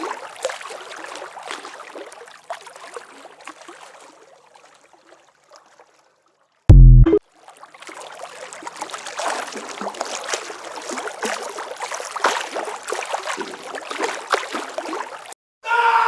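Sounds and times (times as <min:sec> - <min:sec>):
water splashing and dripping: 0:00.0 - 0:15.4.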